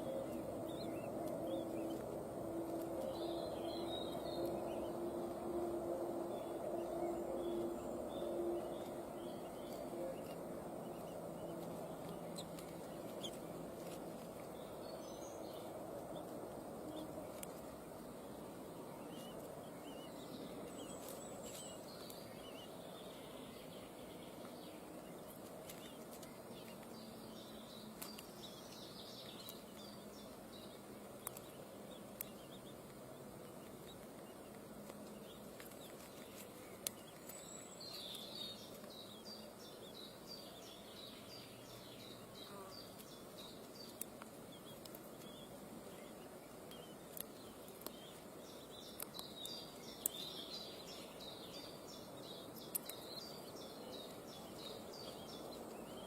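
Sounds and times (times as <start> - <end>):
steady low background noise: 0.0 - 56.0.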